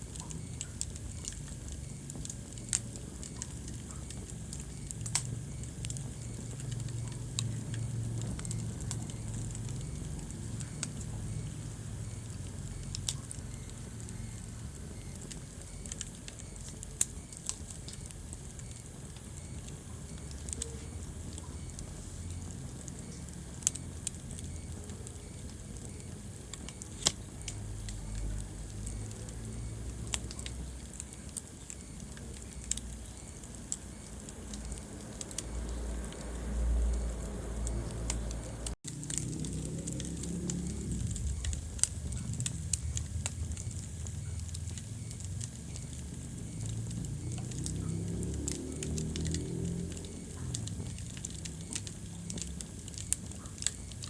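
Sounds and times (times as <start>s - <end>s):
logs crackling and popping: 0.0s - 54.0s
rumble of flames: 0.0s - 54.0s.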